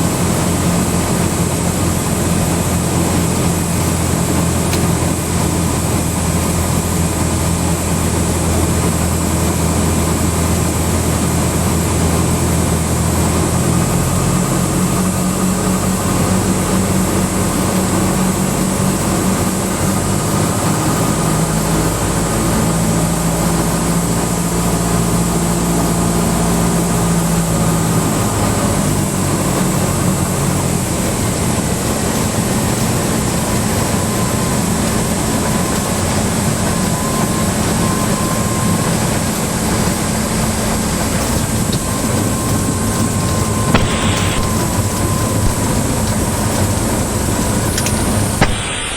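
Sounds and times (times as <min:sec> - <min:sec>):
small plane engine and propeller: 0:00.0 - 0:48.9.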